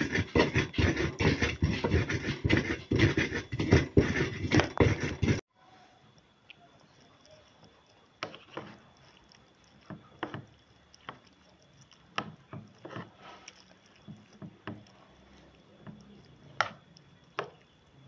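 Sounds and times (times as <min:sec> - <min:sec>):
spoon scraping plastic bowl: 0:00.0 - 0:05.4, 0:08.2 - 0:17.6.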